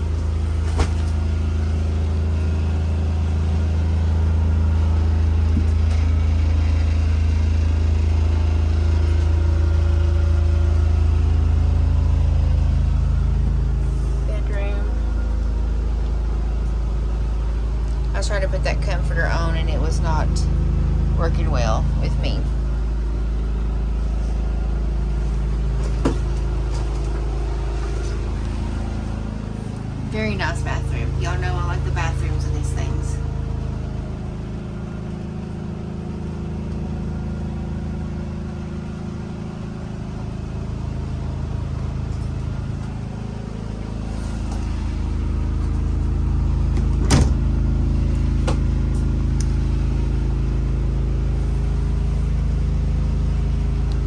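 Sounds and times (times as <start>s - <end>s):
generator humming: 0.0s - 54.0s.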